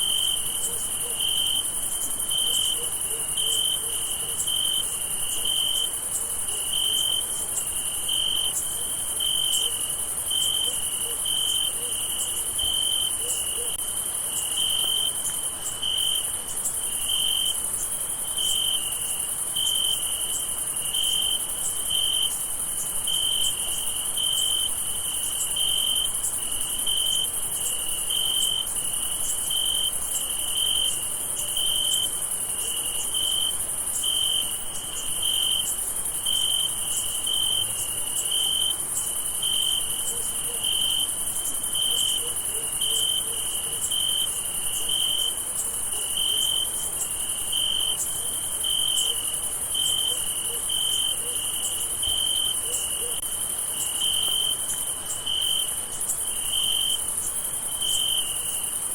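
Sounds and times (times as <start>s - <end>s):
loud cricket chirp: 0.0s - 58.9s.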